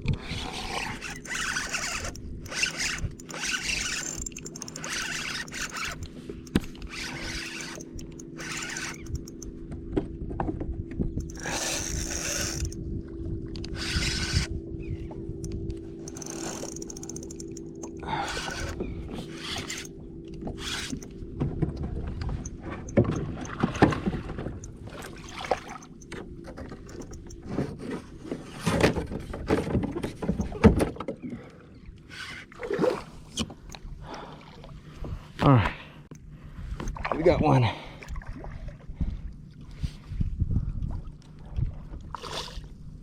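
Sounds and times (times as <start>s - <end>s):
steady low hum: 0.0s - 29.2s, 31.6s - 43.0s.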